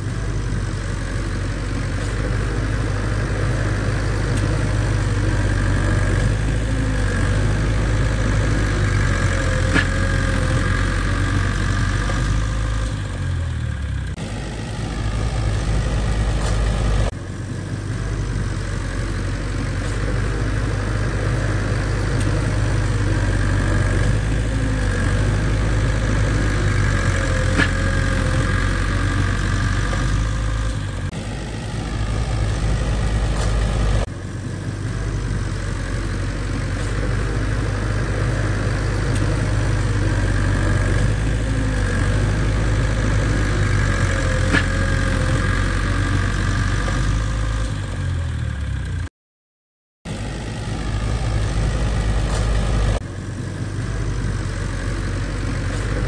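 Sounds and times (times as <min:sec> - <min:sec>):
bulldozer diesel engine running: 0:00.0 - 0:49.1, 0:50.1 - 0:56.0.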